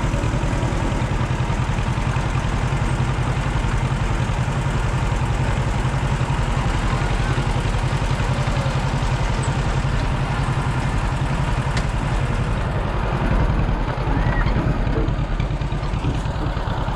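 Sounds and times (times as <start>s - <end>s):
engine running: 0.0s - 16.9s.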